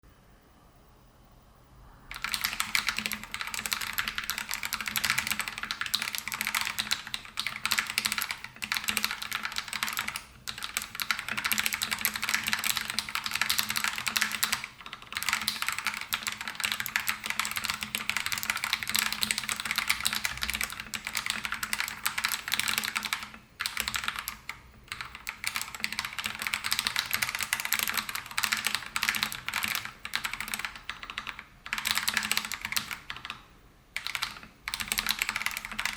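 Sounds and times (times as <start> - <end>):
mechanical keyboard typing: 2.1 - 35.9.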